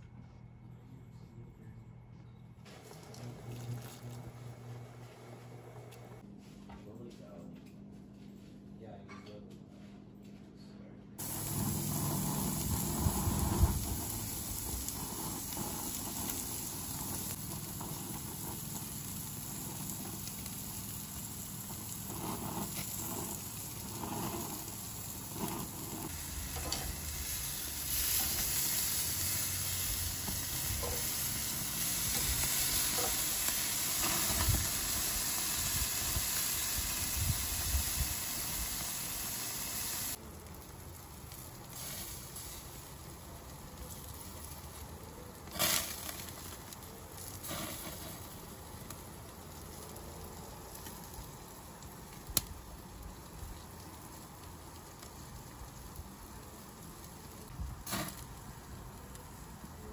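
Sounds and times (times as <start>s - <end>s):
meat sizzling on a grill: 11.2s - 59.9s.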